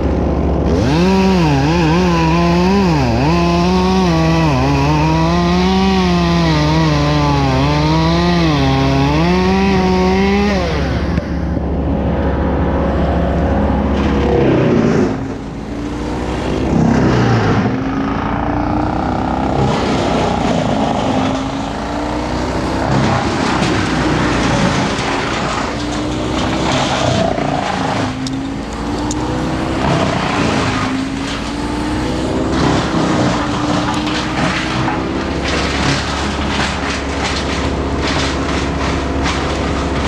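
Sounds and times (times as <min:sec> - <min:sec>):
chainsaw cutting: 0:00.0 - 0:12.1, 0:13.3 - 0:40.0.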